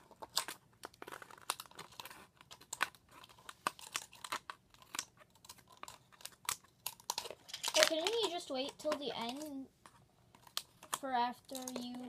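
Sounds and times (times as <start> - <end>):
scissors snipping plastic: 0.0 - 9.6, 10.3 - 12.0
plastic crinkling: 0.0 - 12.0.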